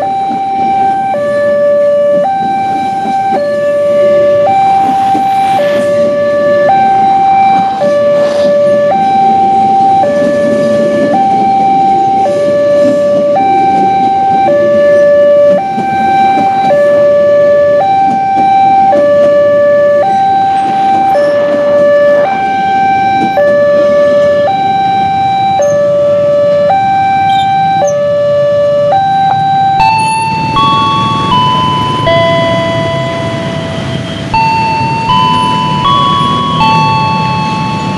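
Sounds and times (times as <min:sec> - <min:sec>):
train carriages rumbling on rails: 0:00.0 - 0:37.9
two-tone crossing alarm: 0:00.0 - 0:37.9.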